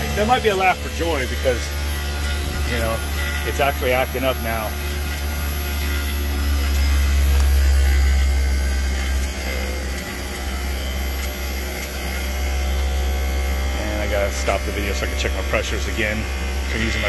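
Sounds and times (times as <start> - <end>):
compressor low hum: 0.0 - 17.0.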